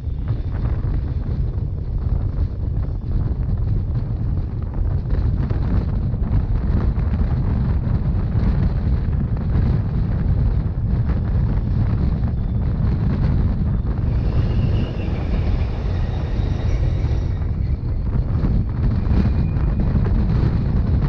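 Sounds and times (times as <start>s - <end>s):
train rumbling: 0.0s - 21.0s
wind buffeting microphone: 0.0s - 21.0s.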